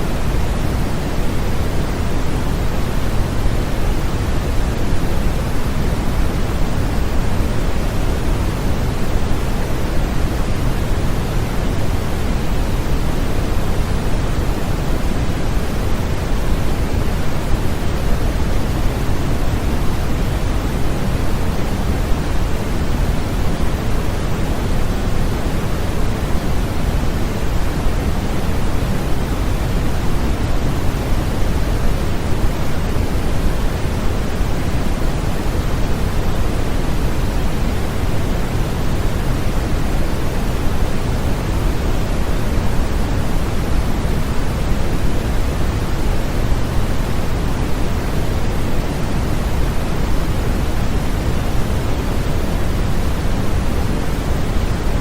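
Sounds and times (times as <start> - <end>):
low steady hiss noise: 0.0 - 55.0.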